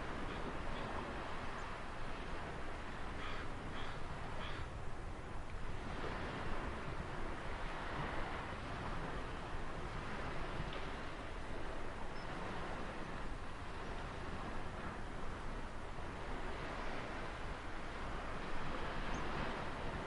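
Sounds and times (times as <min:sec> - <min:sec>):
ocean surf washing on shore: 0:00.0 - 0:20.0.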